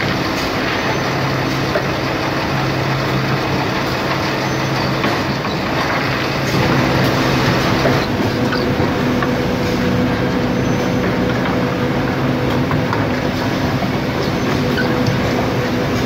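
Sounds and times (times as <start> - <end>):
woodworking machinery droning: 0.0 - 16.0.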